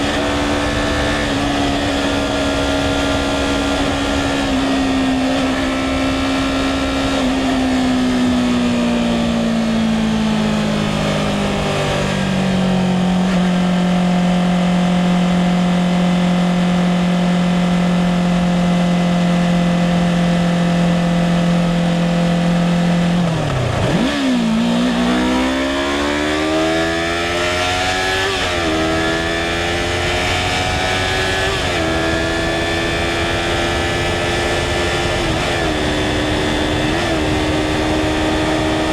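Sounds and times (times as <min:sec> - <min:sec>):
motorcycle engine revving: 0:00.0 - 0:38.9
wind noise: 0:00.0 - 0:38.9.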